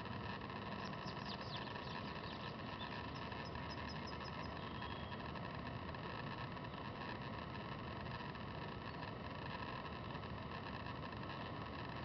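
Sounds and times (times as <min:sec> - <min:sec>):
outdoor hum and hiss: 0:00.0 - 0:12.0.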